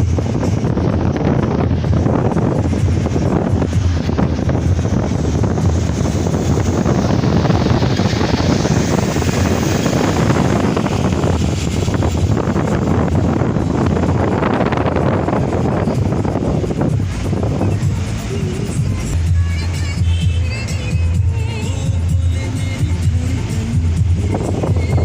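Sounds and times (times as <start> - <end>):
wind buffeting microphone: 0.0 - 20.0, 20.7 - 25.0
car driving on road: 0.0 - 25.0.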